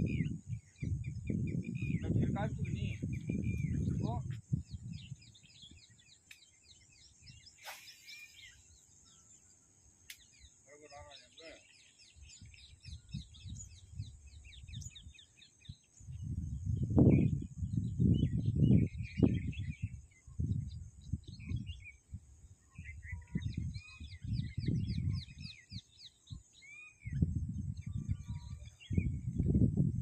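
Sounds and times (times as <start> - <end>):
wind gusts on microphone: 0.0 - 6.2, 12.1 - 30.0
small birds chirping: 0.0 - 29.7.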